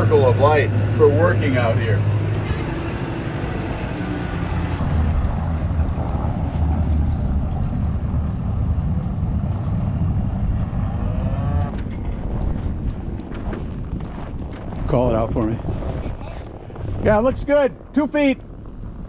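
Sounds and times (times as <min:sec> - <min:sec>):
snowplow engine rumbling: 0:00.0 - 0:19.0.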